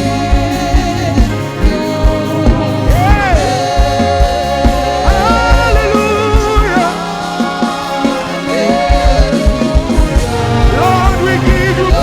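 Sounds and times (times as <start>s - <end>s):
gospel band playing: 0.0s - 12.0s
person singing long notes: 0.0s - 12.0s.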